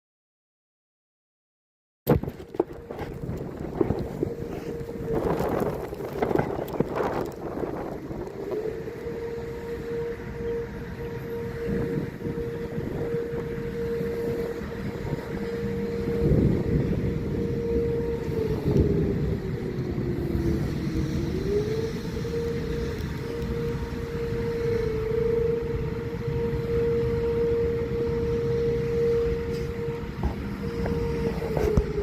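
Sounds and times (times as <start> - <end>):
heavy low rumble: 2.1 - 32.0
warning siren steady tone: 2.1 - 32.0.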